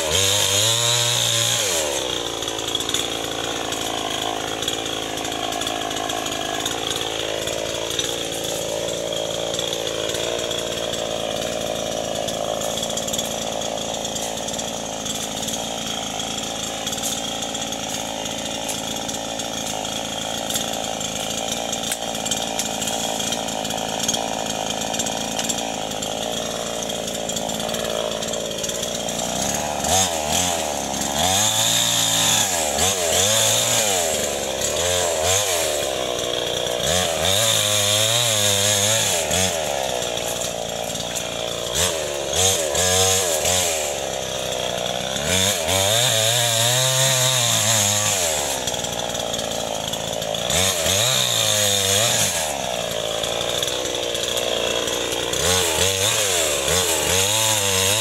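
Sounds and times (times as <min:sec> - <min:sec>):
chainsaw revving and cutting: 0:00.0 - 0:58.0.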